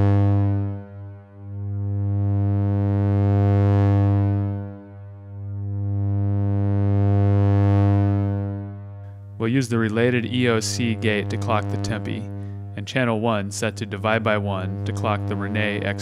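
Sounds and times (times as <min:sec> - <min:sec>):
sawtooth synth drone: 0:00.0 - 0:16.0.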